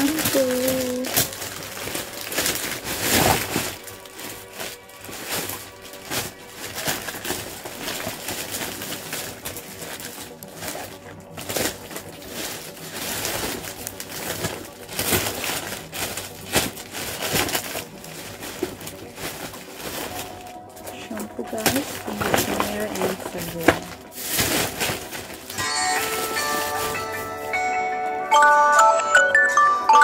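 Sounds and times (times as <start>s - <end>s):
plastic bag crinkling: 0.0s - 27.8s.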